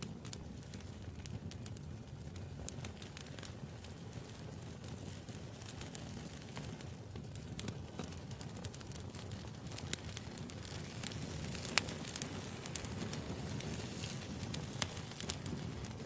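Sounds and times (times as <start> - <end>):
low rumble of flame: 0.0 - 16.0
sharp fire pops: 0.0 - 16.0
wood fire crackling: 0.0 - 16.0.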